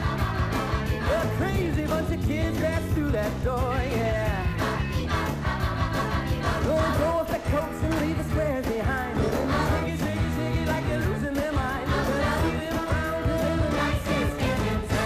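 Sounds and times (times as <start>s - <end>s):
rock and roll song with vocals: 0.0s - 15.0s.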